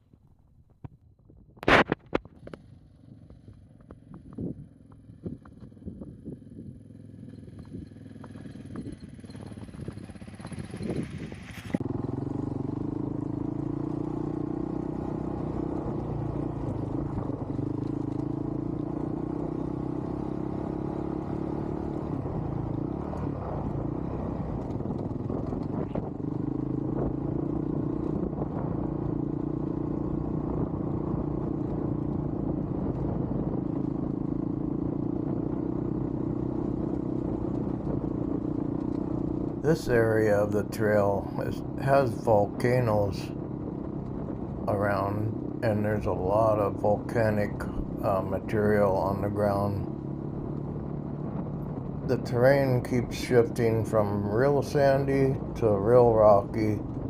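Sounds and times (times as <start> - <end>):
motorcycle engine running: 0.2 - 57.0.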